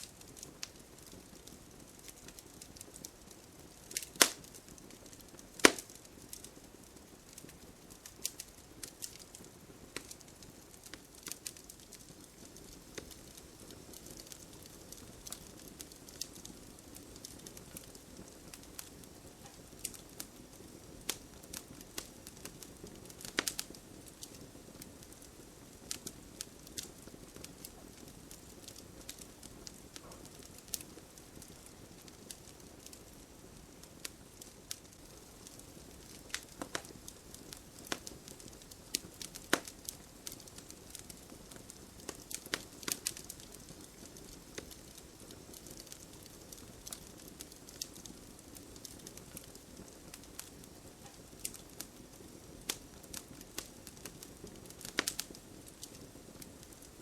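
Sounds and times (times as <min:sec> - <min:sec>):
burning wood crackling and popping: 0:00.0 - 0:57.0
campfire flame rushing: 0:00.1 - 0:57.0.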